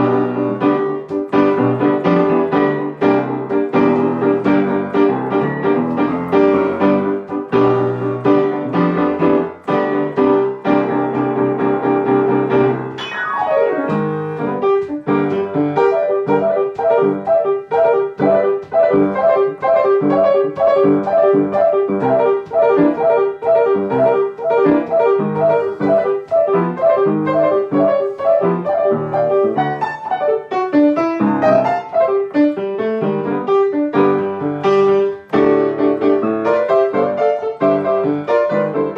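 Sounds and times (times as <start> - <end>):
solo piano playing: 0.0 - 38.9.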